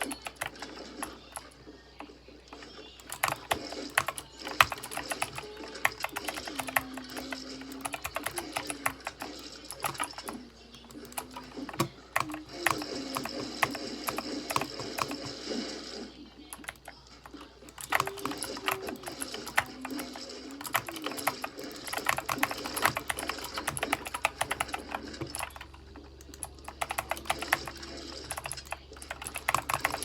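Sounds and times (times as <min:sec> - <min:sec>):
typing on computer keyboard: 0:00.0 - 0:15.5, 0:16.5 - 0:30.0.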